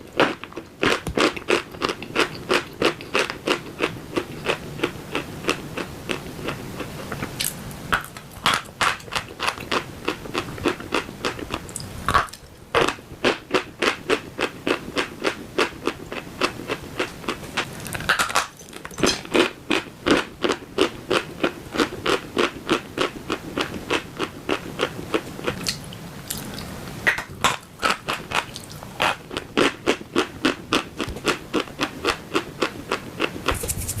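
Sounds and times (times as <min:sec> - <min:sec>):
person chewing chalk: 0:00.1 - 0:34.0.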